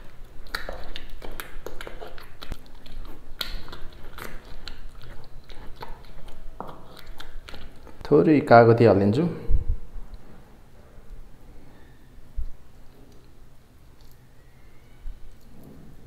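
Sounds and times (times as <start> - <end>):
soft wet squishing: 0.0 - 16.0.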